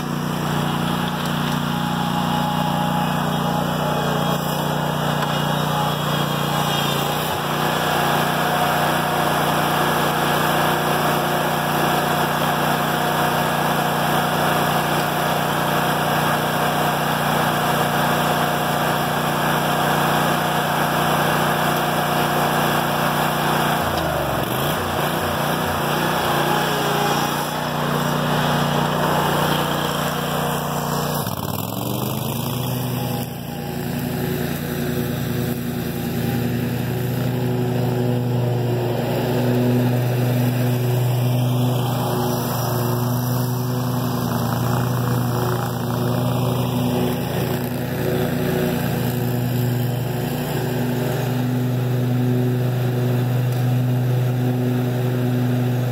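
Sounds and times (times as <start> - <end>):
mower engine running: 0.0 - 55.9.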